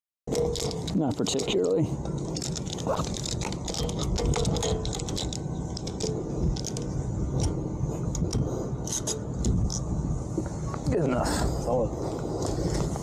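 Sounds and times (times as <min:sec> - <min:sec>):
wind rumbling on microphone: 0:01.8 - 0:13.0.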